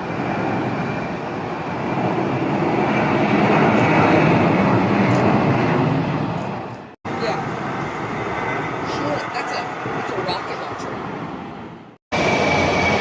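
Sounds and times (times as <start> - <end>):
jet airliner engines passing: 0.0 - 13.0.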